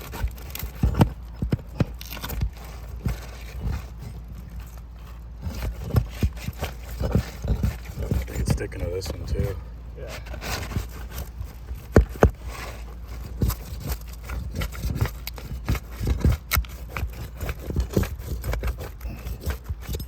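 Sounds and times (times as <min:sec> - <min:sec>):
roof shingles tearing and cracking: 0:00.0 - 0:09.4, 0:10.2 - 0:20.0.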